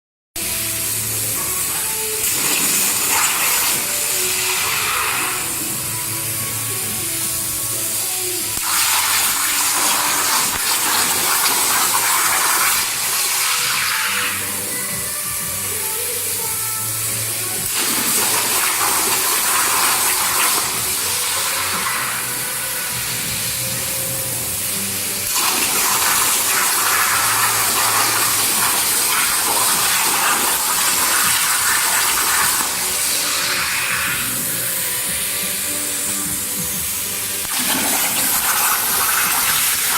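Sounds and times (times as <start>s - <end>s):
plasma cutting torch hissing: 0.4s - 39.9s.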